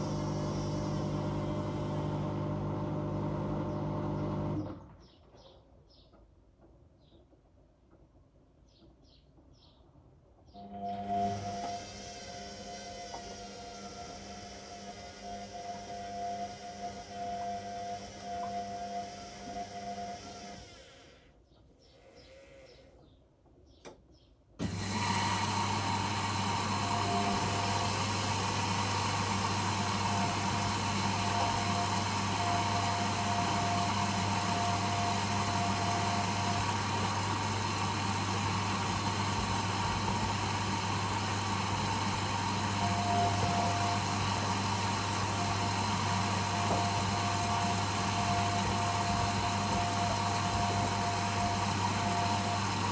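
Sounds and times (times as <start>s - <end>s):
washing machine humming: 0.0s - 4.8s, 10.6s - 20.9s, 24.6s - 52.9s.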